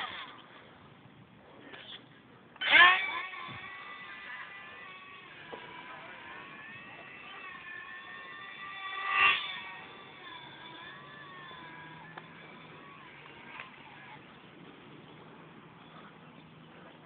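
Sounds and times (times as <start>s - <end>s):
model airplane motor whining: 0.0s - 0.5s, 2.6s - 17.0s.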